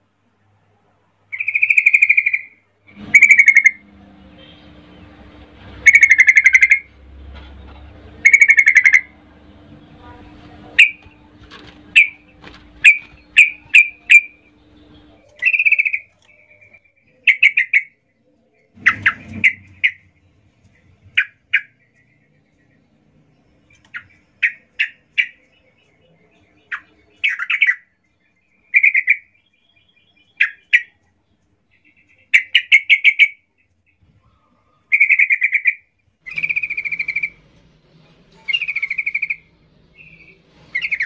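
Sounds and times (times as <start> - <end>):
bird sharp chirps: 1.3 - 5.2, 5.8 - 7.0, 7.7 - 9.2, 10.2 - 31.1, 31.7 - 37.4, 38.4 - 41.0.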